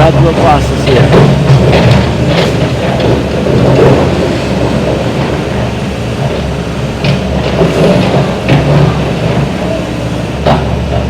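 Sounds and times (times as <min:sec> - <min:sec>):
excavator engine rumbling: 0:00.0 - 0:11.0.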